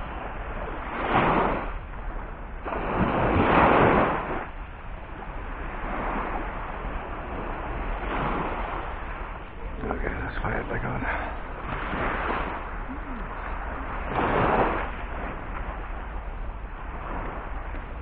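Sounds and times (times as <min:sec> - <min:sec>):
small waves breaking on sand: 0:00.0 - 0:18.0
wind rumbling on microphone: 0:00.0 - 0:18.0.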